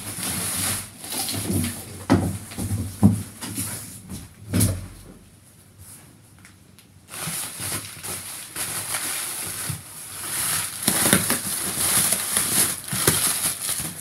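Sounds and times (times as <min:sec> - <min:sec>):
cardboard and packing rustling: 0:00.0 - 0:05.1, 0:07.1 - 0:14.0.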